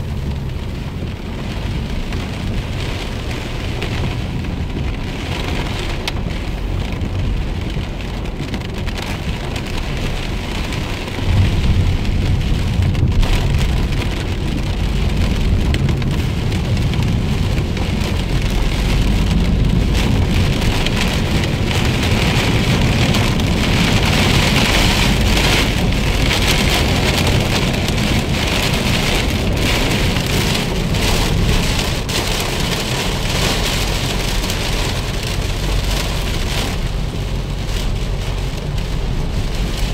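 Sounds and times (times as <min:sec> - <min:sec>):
car driving rumble: 0:00.0 - 0:39.9
heavy rain on a car: 0:00.0 - 0:39.9.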